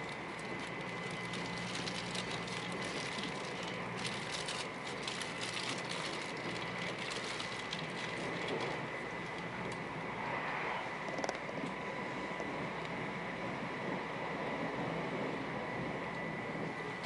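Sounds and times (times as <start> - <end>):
thin constant whine: 0.0 - 17.0
train wheels rumbling on rail: 0.0 - 17.0.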